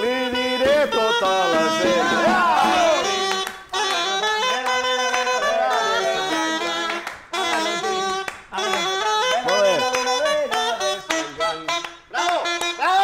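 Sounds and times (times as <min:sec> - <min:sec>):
band playing instrumental music: 0:01.0 - 0:12.6.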